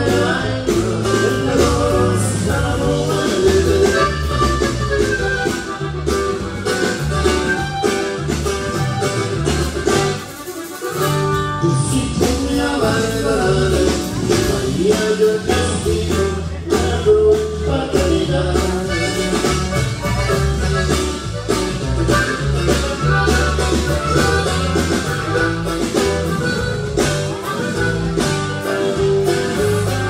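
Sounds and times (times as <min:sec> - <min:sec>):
live band music with singing: 0:00.0 - 0:30.0
steady bass line: 0:00.0 - 0:30.0.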